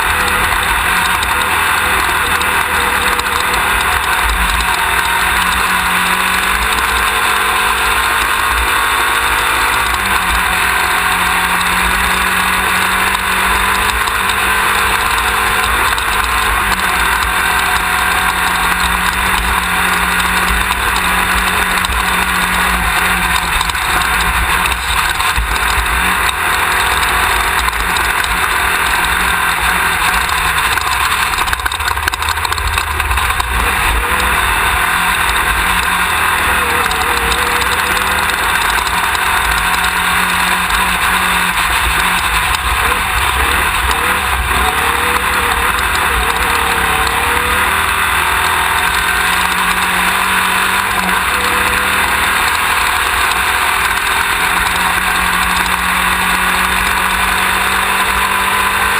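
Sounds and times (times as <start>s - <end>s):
race car engine running: 0.0s - 58.9s.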